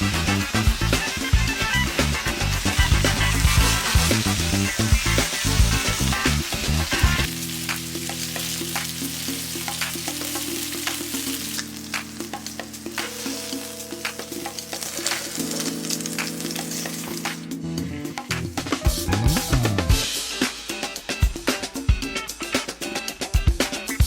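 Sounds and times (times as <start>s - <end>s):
background music tones: 0.0s - 24.0s
food sizzling in a pan: 0.0s - 24.0s.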